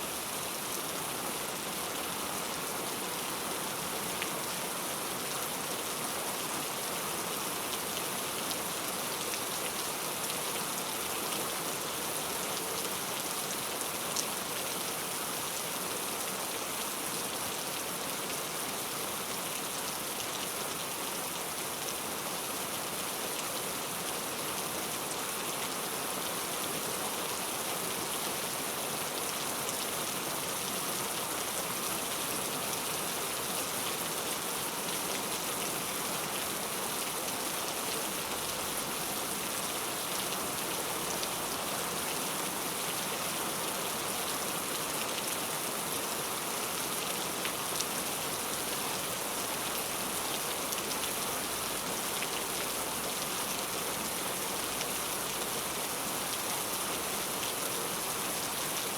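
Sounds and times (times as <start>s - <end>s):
heavy rain: 0.1s - 58.9s.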